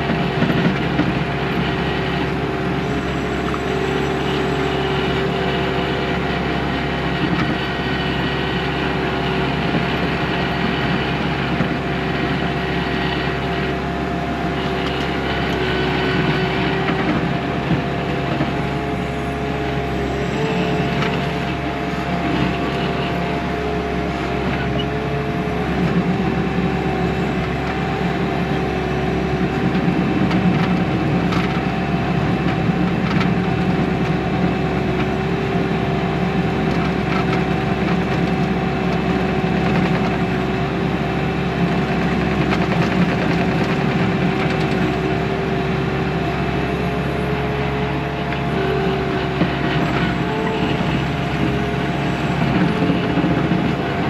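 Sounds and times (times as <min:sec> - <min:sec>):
steady machine whine: 0:00.0 - 0:36.6, 0:40.1 - 0:54.0
track loader diesel engine: 0:00.0 - 0:54.0.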